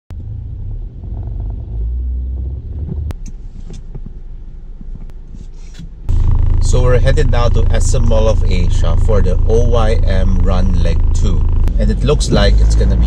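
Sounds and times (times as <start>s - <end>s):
car driving heard from inside: 0.1s - 13.0s.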